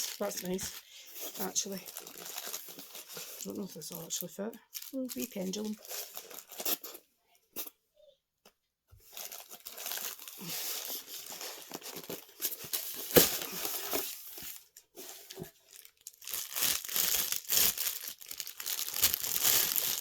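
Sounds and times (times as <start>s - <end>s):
packaging crinkling and rustling: 0.0s - 7.0s, 9.0s - 20.0s.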